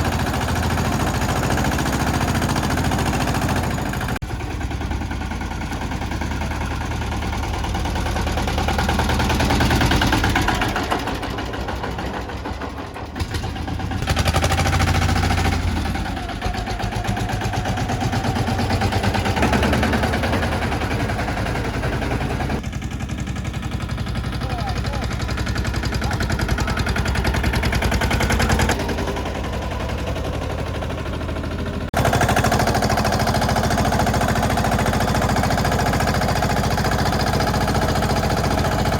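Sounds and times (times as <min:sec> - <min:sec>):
mini tractor engine pulsing: 0:00.0 - 0:38.9.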